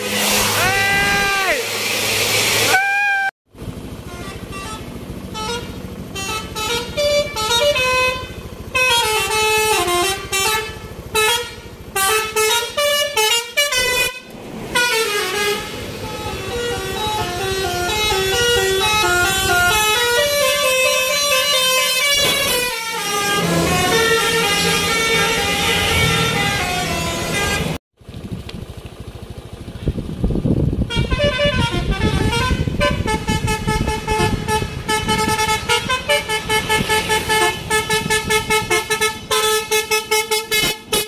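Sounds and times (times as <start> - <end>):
musical multi-tone air horns: 0.0 - 3.3, 4.0 - 27.8, 30.9 - 41.0
bus engine noise: 0.0 - 41.0.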